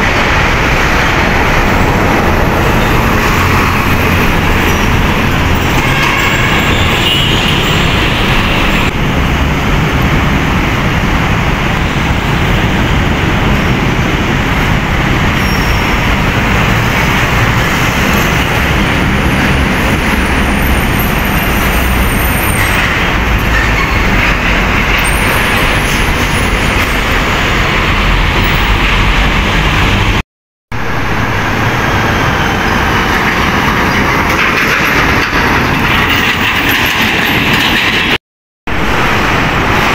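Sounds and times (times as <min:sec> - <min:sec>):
diesel truck engines: 0:00.0 - 0:30.2, 0:30.8 - 0:39.9
heavy road traffic: 0:00.0 - 0:39.9.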